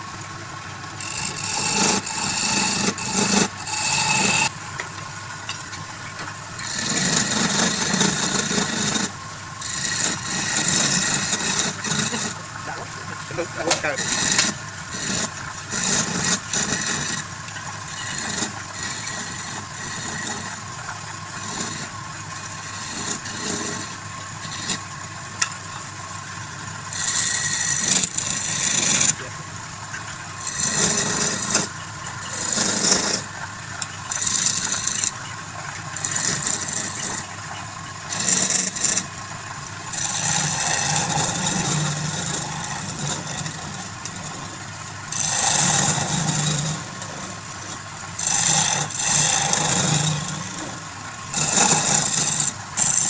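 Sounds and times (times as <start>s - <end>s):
tool hissing on spinning wood: 0.0s - 4.6s, 5.2s - 53.0s
lathe motor hum: 0.0s - 25.5s, 26.2s - 53.0s.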